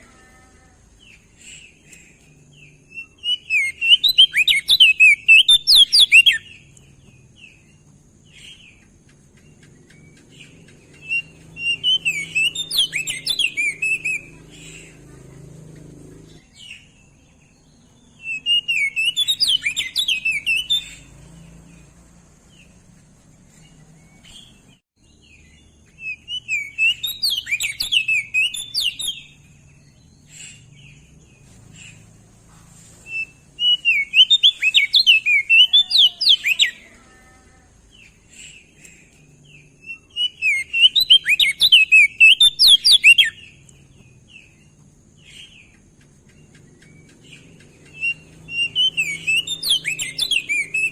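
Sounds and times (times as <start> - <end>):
bird warbling song: 0.0 - 50.9.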